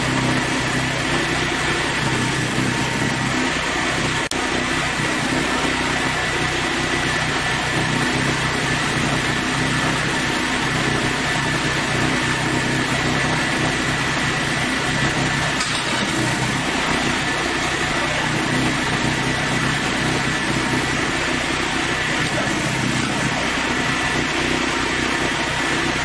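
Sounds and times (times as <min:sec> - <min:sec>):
band sawmill engine running: 0:00.0 - 0:26.0.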